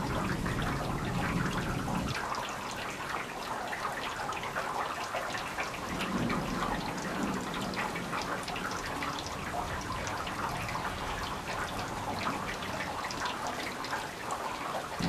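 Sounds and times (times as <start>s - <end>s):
rain falling and dripping: 0.0s - 15.0s.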